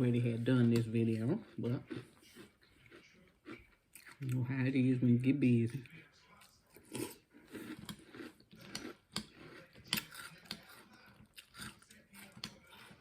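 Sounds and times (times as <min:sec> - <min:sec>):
person chewing crunchy cereal: 0:00.3 - 0:13.0.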